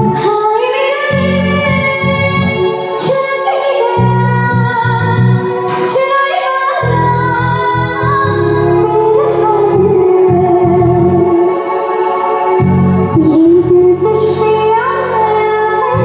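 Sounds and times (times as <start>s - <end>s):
woman singing: 0.0s - 11.7s, 13.2s - 16.0s
backing music with steady beat: 0.0s - 16.0s.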